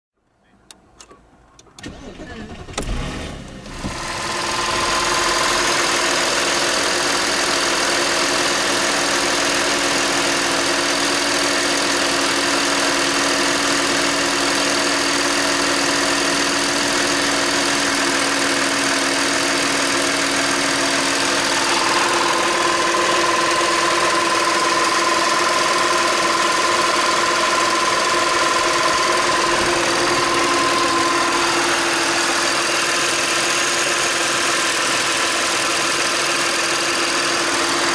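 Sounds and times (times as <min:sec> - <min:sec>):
car engine idling: 0:01.9 - 0:37.9.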